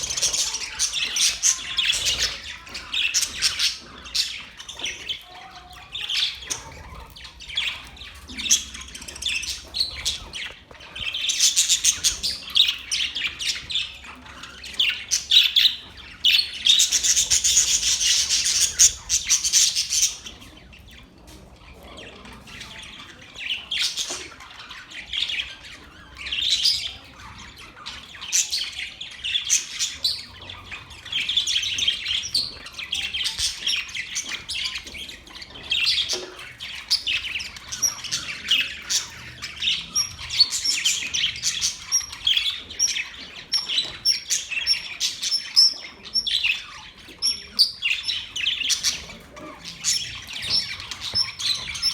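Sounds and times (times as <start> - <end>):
budgerigars chirping and chattering: 0.0 - 51.9.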